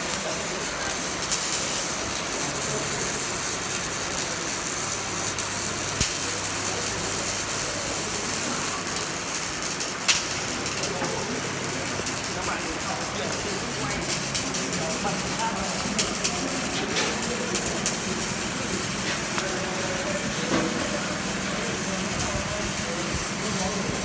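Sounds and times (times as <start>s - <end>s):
welding arc crackling: 0.0s - 24.0s
sharp welding pops: 0.1s - 19.8s.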